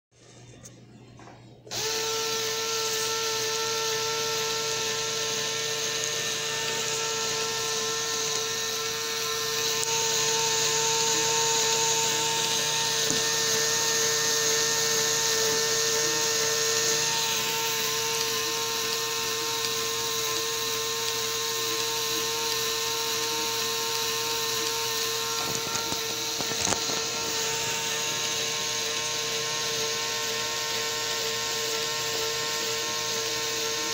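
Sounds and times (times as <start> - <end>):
electric motor whining: 1.6 - 33.9.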